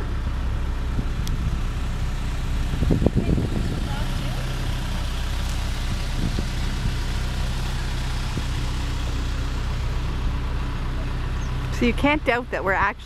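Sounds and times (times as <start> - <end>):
ferry engine droning: 0.0 - 13.0.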